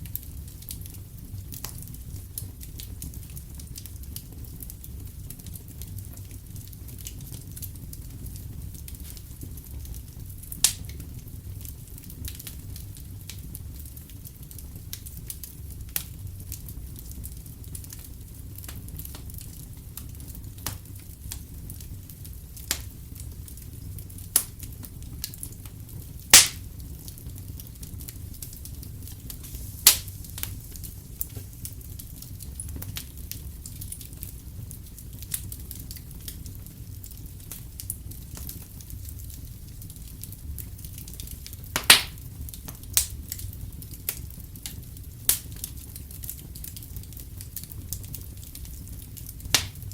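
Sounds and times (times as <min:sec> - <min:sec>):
low fire rumble: 0:00.0 - 0:49.9
wood fire crackling and popping: 0:00.0 - 0:49.9.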